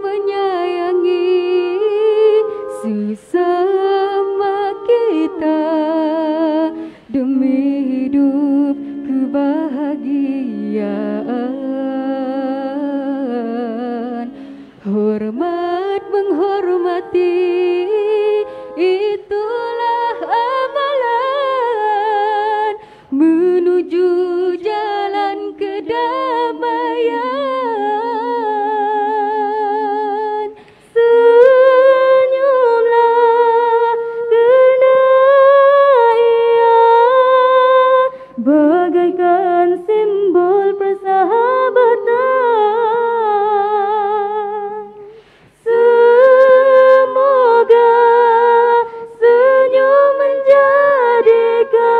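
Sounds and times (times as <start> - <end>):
women singing a cappella: 0.0 - 51.9.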